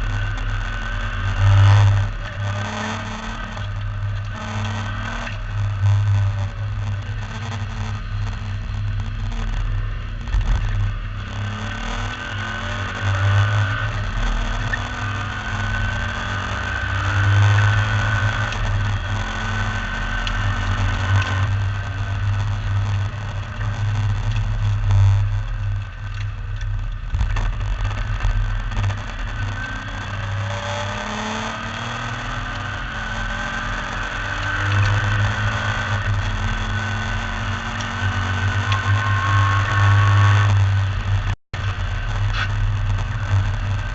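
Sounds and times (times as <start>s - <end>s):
race car engine under load: 0.0s - 43.9s.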